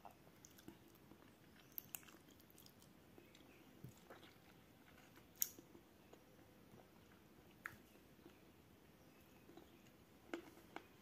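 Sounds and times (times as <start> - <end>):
faint chewing: 0.0 - 8.6, 9.2 - 11.0.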